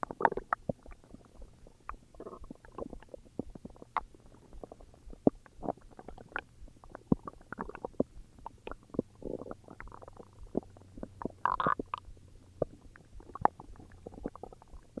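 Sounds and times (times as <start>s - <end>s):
stomach growling and gurgling: 0.0s - 15.0s.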